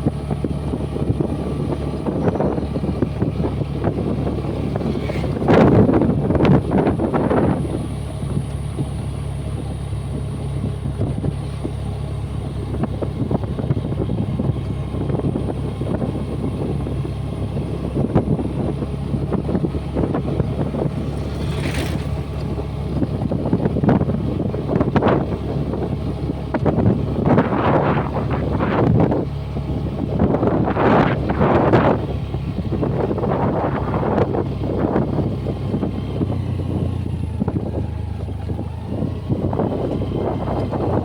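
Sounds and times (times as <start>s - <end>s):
scooter engine running: 0.0s - 41.0s
wind buffeting microphone: 0.0s - 41.0s.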